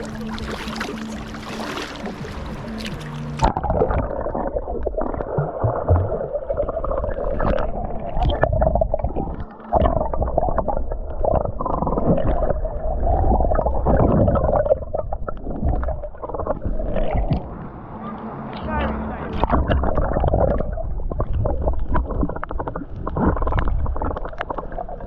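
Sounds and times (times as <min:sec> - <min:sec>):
muffled underwater rumbling and gurgling: 0:00.0 - 0:25.0.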